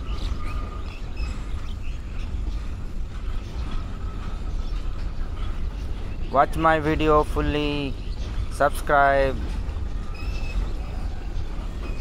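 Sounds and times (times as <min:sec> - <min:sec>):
bird chirps: 0:00.0 - 0:12.0
freight train rumbling on rails: 0:00.0 - 0:12.0.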